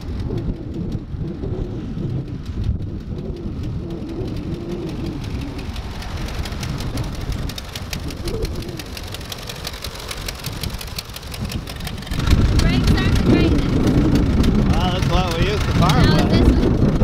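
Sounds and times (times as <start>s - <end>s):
tractor engine running: 0.0s - 17.0s
rapid crackle of clicks: 2.1s - 16.0s.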